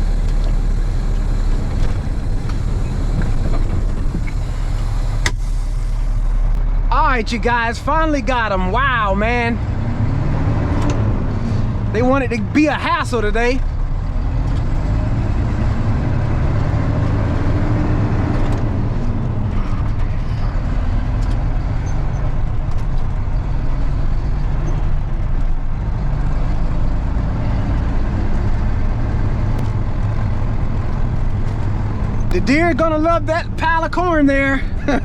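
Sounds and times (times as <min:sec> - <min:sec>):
truck diesel engine running: 0:00.0 - 0:35.0.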